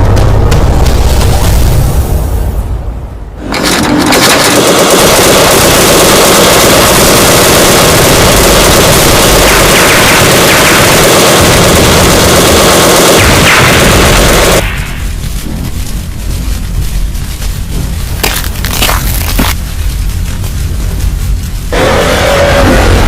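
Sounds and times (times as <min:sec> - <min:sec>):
rapid rattling like gunfire: 0:03.4 - 0:22.4.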